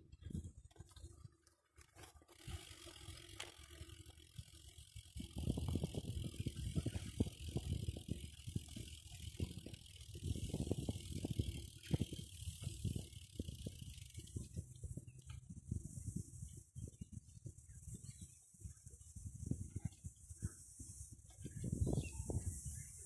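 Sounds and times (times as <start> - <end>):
bike rattling over bumpy ground: 0.0 - 23.0.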